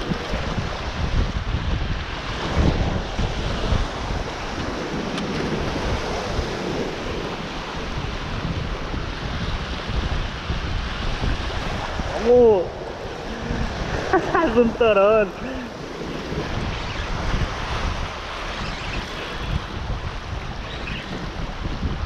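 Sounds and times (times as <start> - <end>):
surf washing against rocks: 0.0 - 22.0
wind buffeting microphone: 0.0 - 22.0.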